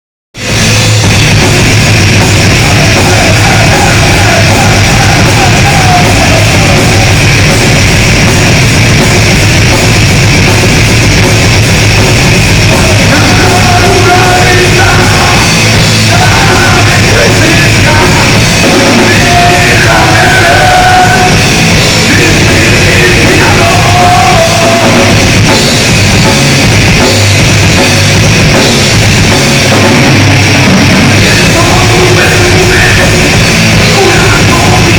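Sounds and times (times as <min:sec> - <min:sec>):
heavy metal band playing live: 0:00.4 - 0:34.9.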